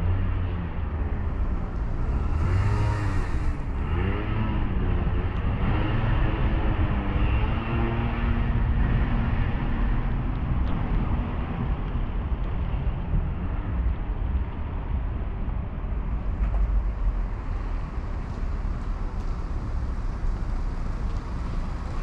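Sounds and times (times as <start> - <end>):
street traffic noise: 0.0 - 22.0
vehicle engine hum: 0.0 - 22.0.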